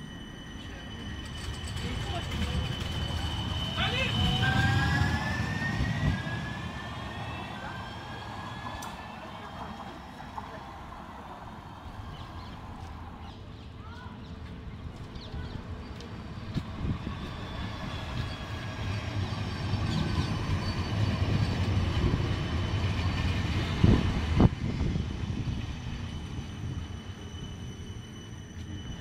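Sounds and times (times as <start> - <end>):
tram passing by: 0.0 - 29.0.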